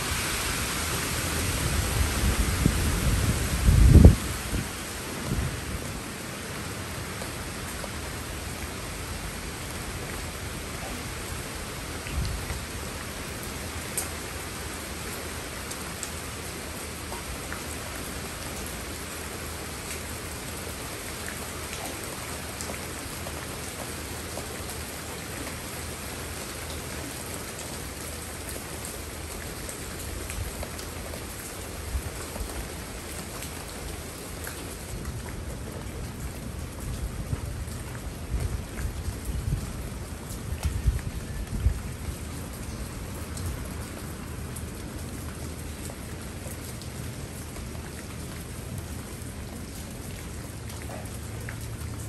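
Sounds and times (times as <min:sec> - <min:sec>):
rain on leafy plants: 0:00.0 - 0:52.0.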